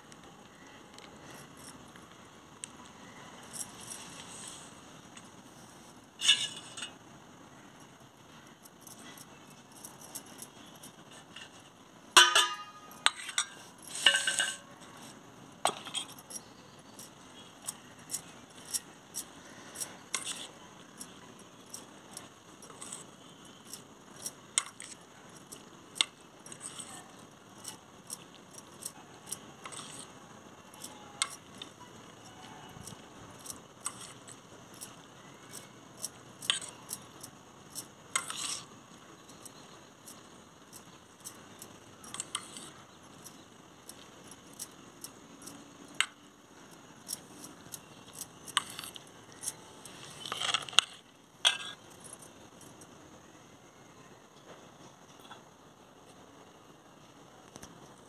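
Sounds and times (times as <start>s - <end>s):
glass bangles and steel bowl clinking: 3.2s - 5.3s, 6.2s - 7.0s, 8.5s - 52.9s.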